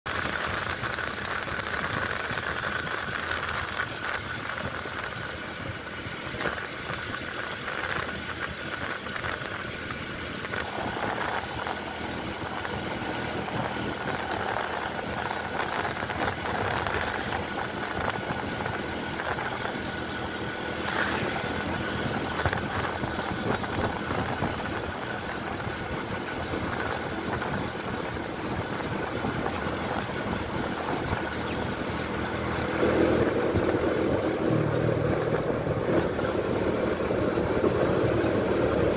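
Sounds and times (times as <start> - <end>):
motor vehicle droning: 0.1 - 38.9.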